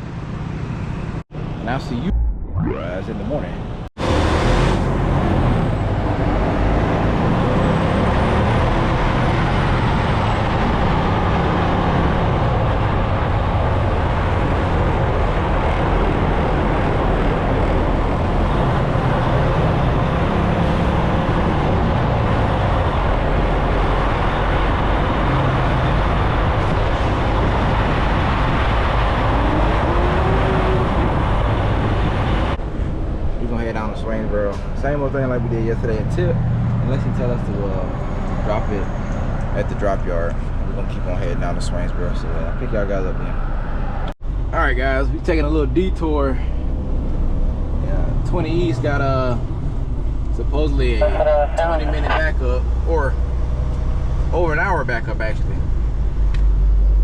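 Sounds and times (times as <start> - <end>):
road and tyre noise: 0.0 - 57.0
truck engine drone: 0.0 - 57.0.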